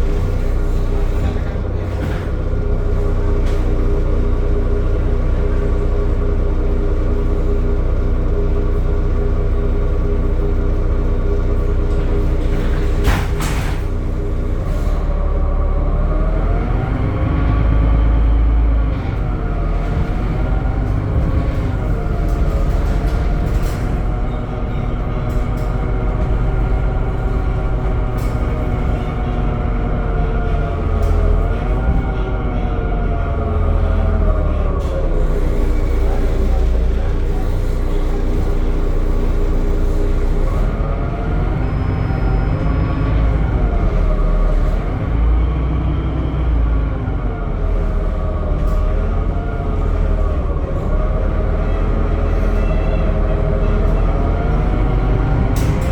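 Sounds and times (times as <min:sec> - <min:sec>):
bus engine whine and rumble: 0:00.0 - 0:55.9.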